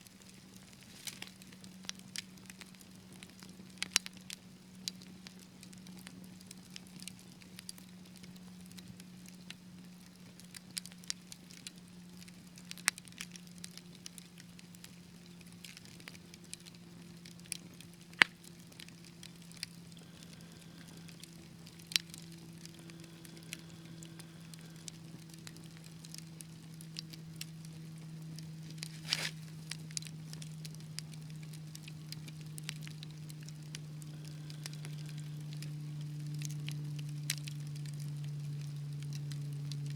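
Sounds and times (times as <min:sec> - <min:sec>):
low steady hum: 0:00.0 - 0:39.9
wood fire crackling and popping: 0:00.0 - 0:39.9.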